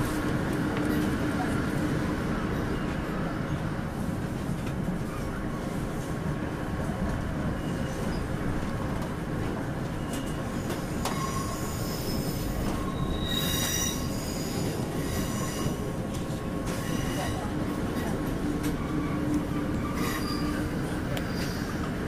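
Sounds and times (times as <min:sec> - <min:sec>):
diesel train rumbling: 0:00.0 - 0:22.0.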